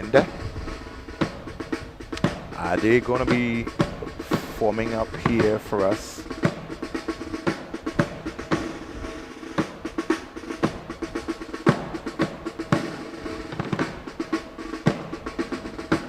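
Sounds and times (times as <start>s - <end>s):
bass drum: 0.0s - 16.0s
snare drum marching cadence: 0.0s - 16.0s.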